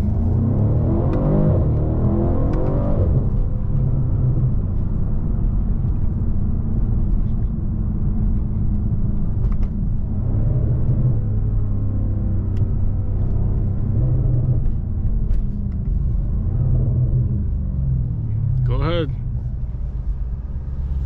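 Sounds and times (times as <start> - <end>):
car engine running: 0.0 - 21.0
low road rumble: 0.0 - 21.0.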